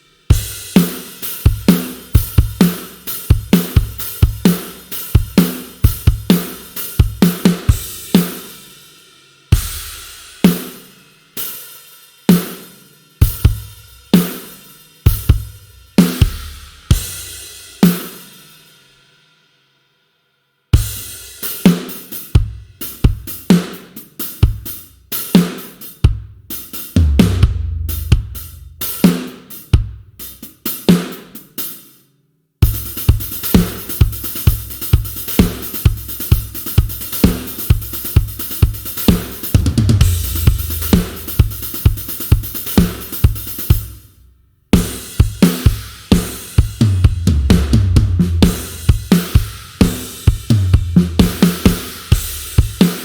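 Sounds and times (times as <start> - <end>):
rock drum kit playing: 0.0 - 8.9, 9.5 - 18.5, 20.8 - 31.9, 32.6 - 44.1, 44.8 - 53.0.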